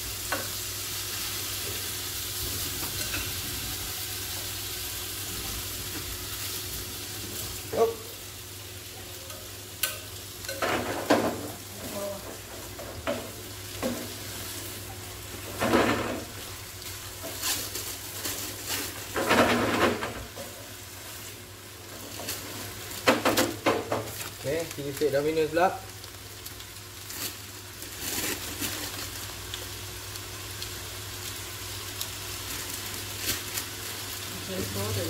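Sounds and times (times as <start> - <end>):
spaghetti sizzling in pan: 0.0 - 35.0.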